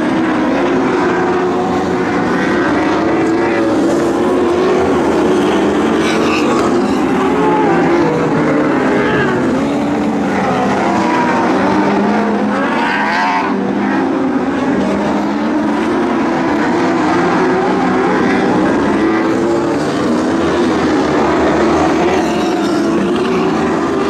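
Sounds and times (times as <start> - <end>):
racing car engines: 0.0 - 24.0.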